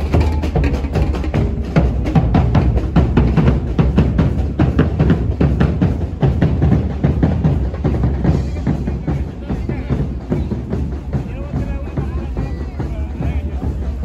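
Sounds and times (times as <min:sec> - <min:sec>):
fast drum beat music: 0:00.0 - 0:14.0.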